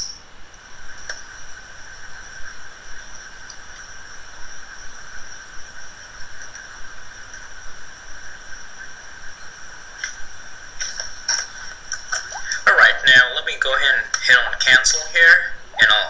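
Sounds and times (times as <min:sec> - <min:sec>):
faint hiss: 0:00.0 - 0:16.0
high-pitched electrical whine: 0:00.0 - 0:16.0.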